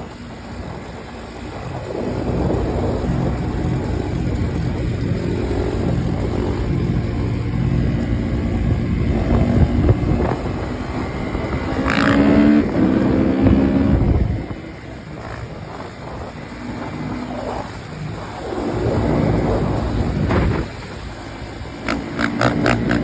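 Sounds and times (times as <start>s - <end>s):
dirt bike engine revving: 1.5s - 20.8s, 21.6s - 23.0s.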